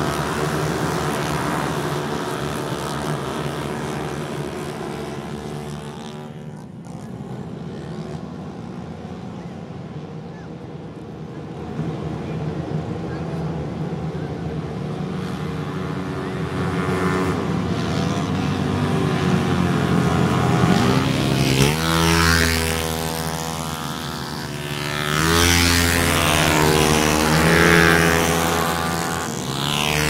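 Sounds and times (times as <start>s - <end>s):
scooter engines at high revs: 0.0s - 30.0s.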